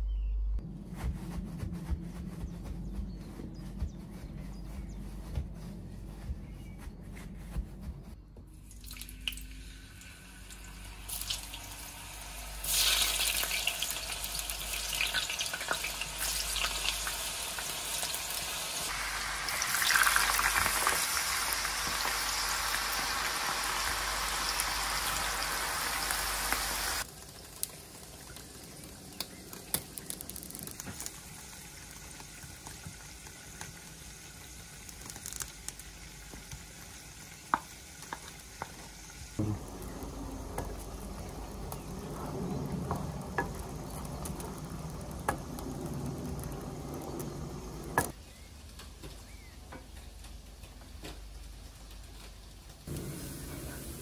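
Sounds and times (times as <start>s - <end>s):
potato sticks sizzling in oil: 8.7s - 48.1s, 50.0s - 54.0s.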